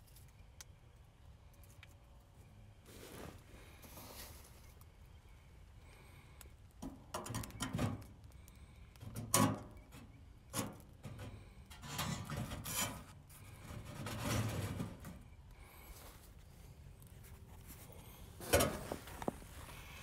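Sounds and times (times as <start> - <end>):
twigs rustling and scraping in stove: 0.0 - 20.0.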